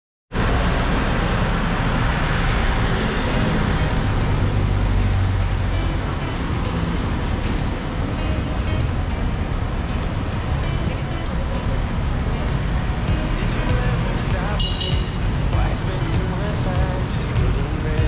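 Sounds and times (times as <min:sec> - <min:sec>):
bus engine running: 0:00.3 - 0:18.0
street traffic noise: 0:00.3 - 0:18.0.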